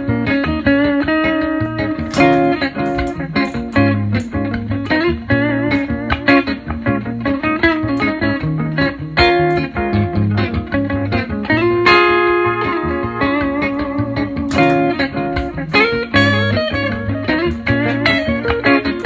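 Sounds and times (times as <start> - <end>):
electric guitar blues run: 0.0 - 19.0.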